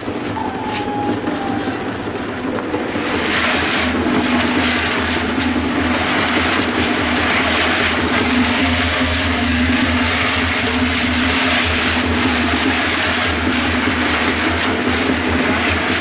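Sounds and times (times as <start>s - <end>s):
concrete churning in mixer drum: 0.0s - 16.0s
tractor engine running: 0.0s - 16.0s.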